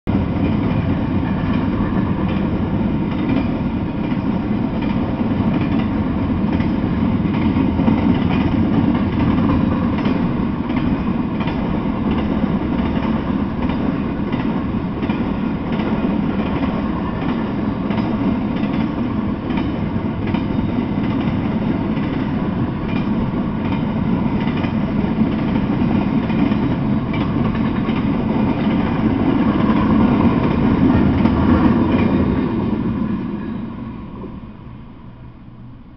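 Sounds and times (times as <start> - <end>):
freight train wheels rumbling: 0.1 - 35.9.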